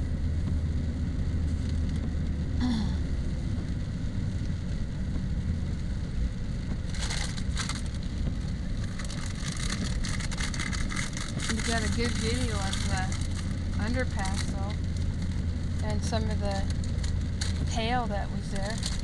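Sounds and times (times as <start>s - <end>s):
road rumble inside car: 0.0s - 19.0s.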